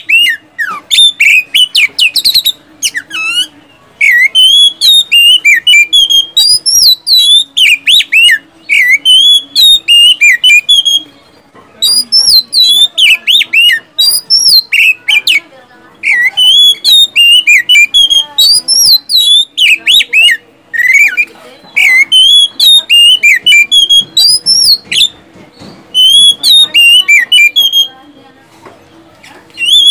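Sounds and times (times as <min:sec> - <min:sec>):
bird singing whistled notes: 0:00.0 - 0:28.1, 0:29.5 - 0:29.9.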